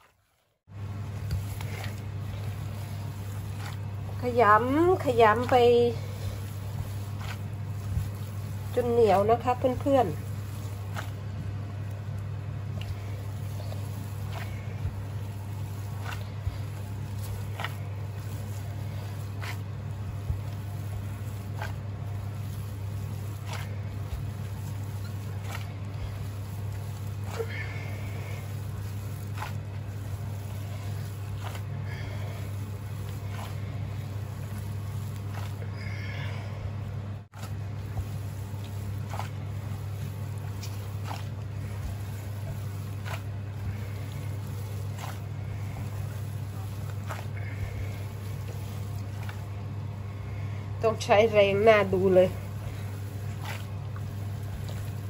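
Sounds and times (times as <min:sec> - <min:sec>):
steady low hum: 0:00.0 - 0:55.0
wet squelch of kneading meat: 0:00.0 - 0:55.0.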